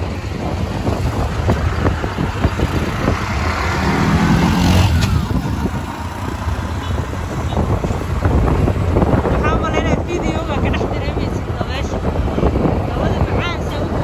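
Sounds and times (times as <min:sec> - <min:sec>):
rickshaw engine rumbling: 0:00.0 - 0:14.0.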